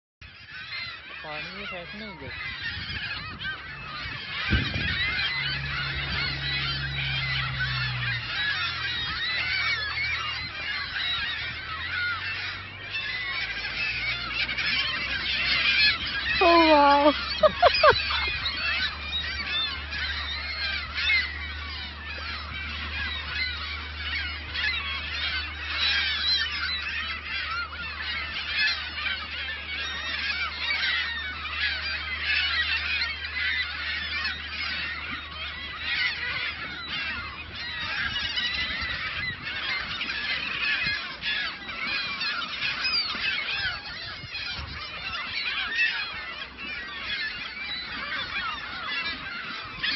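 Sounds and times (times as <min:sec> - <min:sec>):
flock of birds chattering: 0:00.2 - 0:49.9.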